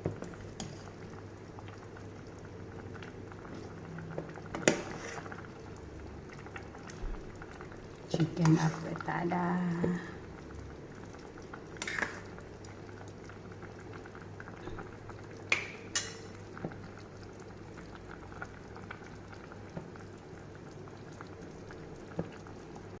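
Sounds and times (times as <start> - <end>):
stew bubbling in a pot: 0.0 - 23.0.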